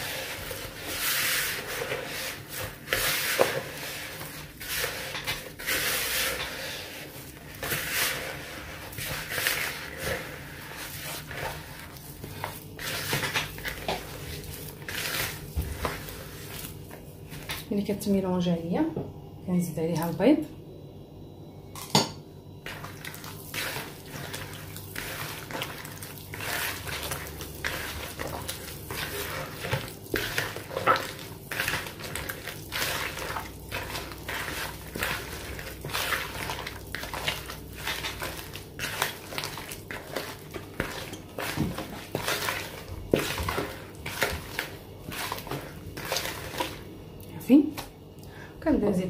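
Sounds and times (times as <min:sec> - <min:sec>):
hand squelching dough: 0:00.0 - 0:17.9, 0:22.6 - 0:48.3.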